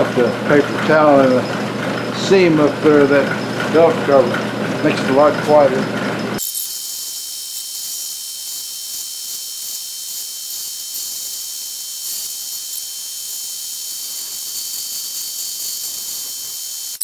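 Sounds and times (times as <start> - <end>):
milling machine cutting steel: 0.0 - 17.0.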